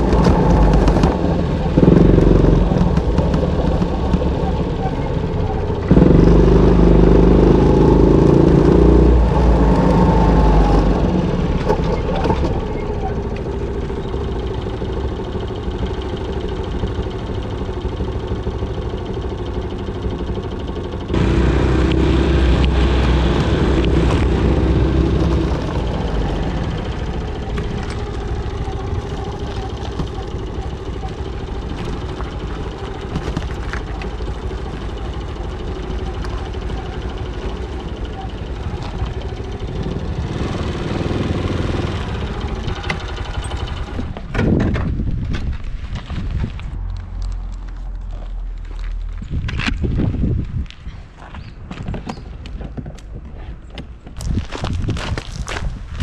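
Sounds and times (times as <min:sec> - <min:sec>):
small motorcycle engine running: 0:00.0 - 0:46.1.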